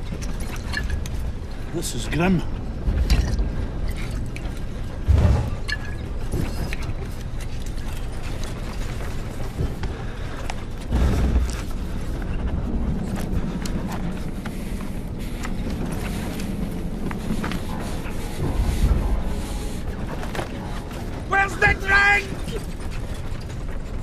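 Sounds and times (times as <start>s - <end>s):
low cabin rumble: 1.0s - 24.0s.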